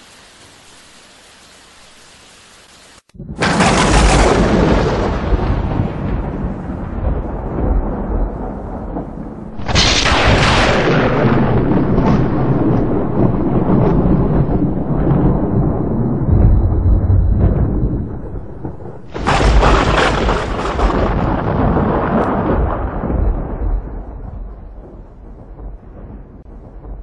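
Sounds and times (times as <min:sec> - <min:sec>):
thunder cracking and rumbling: 0:03.2 - 0:27.0.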